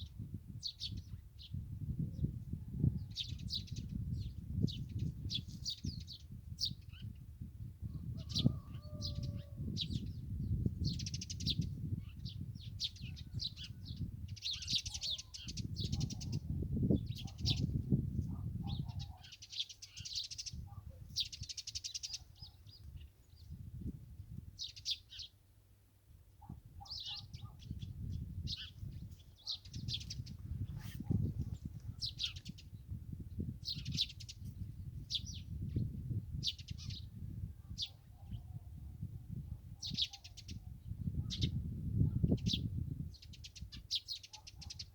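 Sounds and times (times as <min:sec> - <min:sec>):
songbirds singing and chirping: 0:00.0 - 0:44.9.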